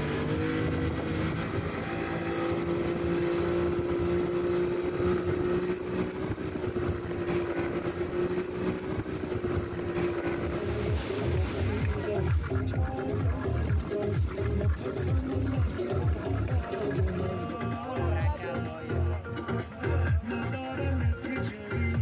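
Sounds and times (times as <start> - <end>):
water rushing: 0.0 - 17.8
outboard motor running: 0.0 - 22.0
wind: 0.0 - 22.0.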